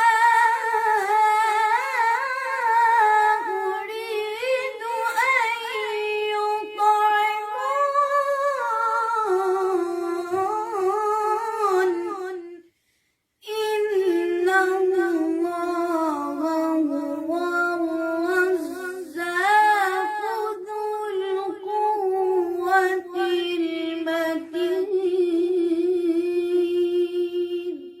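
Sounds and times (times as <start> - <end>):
person singing unaccompanied: 0.0 - 12.7, 13.4 - 28.0.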